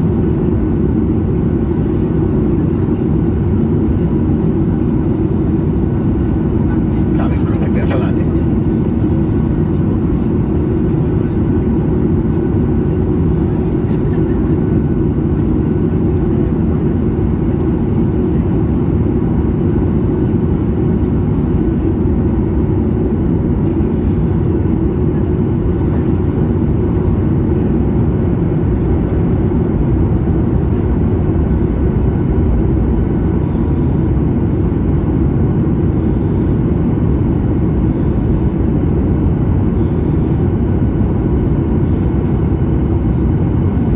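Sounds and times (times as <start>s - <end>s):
airplane cabin noise: 0.0s - 43.9s.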